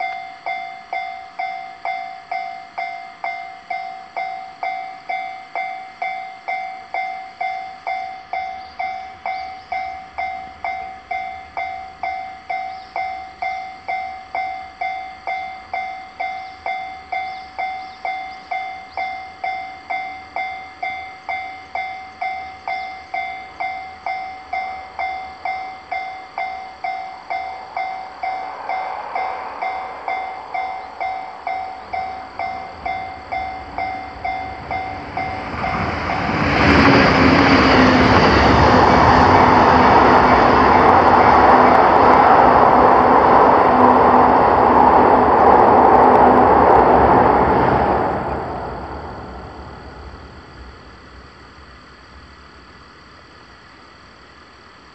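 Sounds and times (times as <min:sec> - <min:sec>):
level crossing warning bell: 0:00.0 - 0:48.0.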